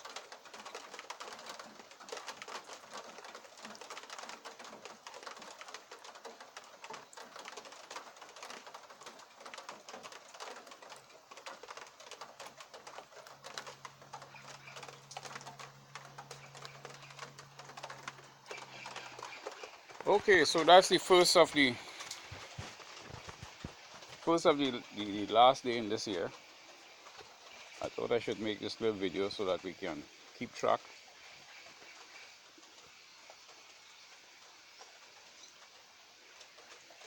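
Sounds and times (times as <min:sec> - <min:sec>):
light rain pattering: 0:00.0 - 0:37.0.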